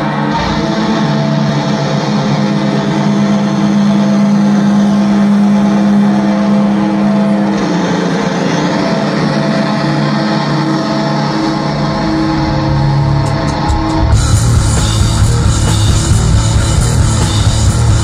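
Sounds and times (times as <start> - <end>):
electric bass and guitar droning: 0.0 - 18.0.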